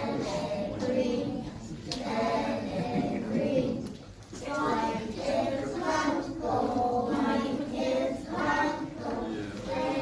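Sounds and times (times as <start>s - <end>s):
children singing: 0.0s - 10.0s.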